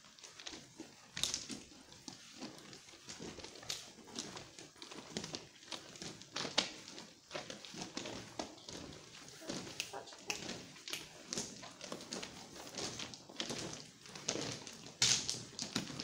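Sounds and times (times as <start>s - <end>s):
footsteps in stone tunnel: 0.0s - 16.0s.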